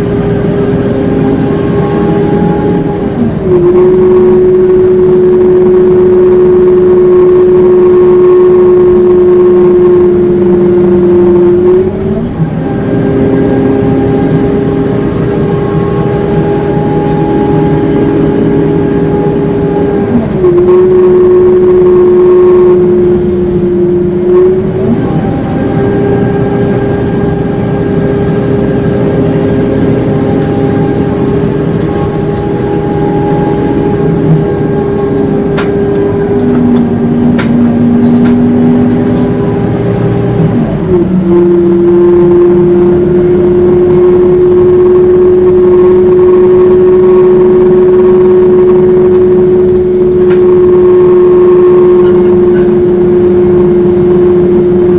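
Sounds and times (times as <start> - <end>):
bus engine running: 0.0 - 54.9
bus transmission howl: 0.0 - 54.9.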